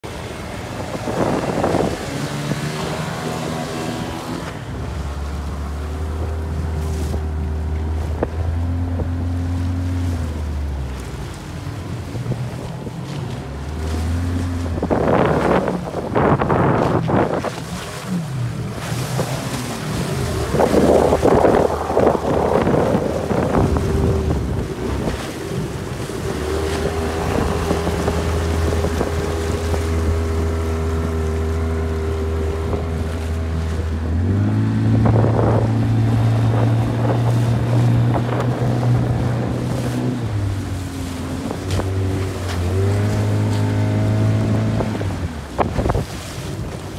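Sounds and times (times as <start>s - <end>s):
gusts of wind: 0.0s - 46.9s
outboard motor running: 0.0s - 46.9s
water rushing: 0.0s - 46.9s.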